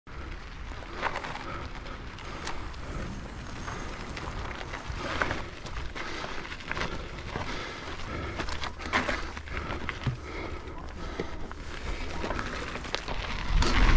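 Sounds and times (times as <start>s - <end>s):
bike clicks and rattles: 0.1s - 13.9s
tyre and wind rumble: 0.1s - 13.9s.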